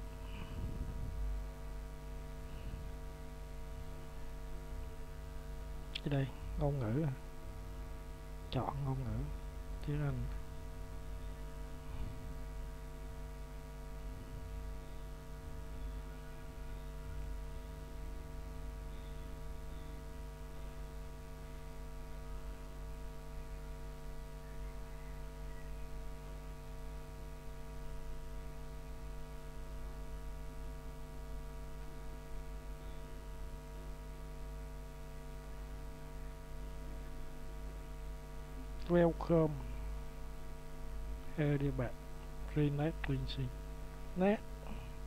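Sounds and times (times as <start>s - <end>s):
electrical hum: 0.0s - 45.0s.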